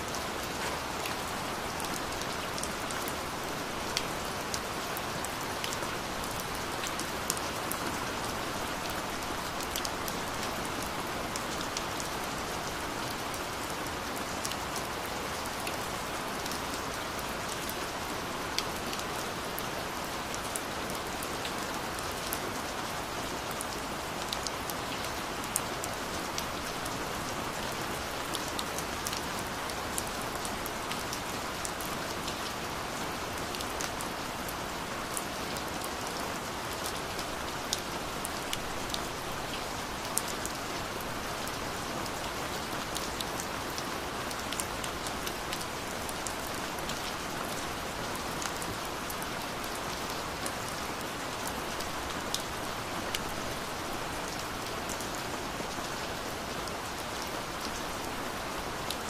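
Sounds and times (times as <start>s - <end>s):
raindrops ticking on a surface: 0.1s - 55.8s.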